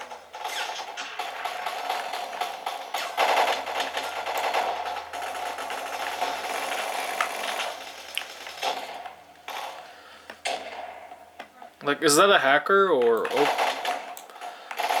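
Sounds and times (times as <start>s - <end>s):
rapid gunfire in game: 0.0s - 11.1s, 13.2s - 15.0s
scattered clicks and shots: 0.0s - 12.3s, 12.9s - 15.0s.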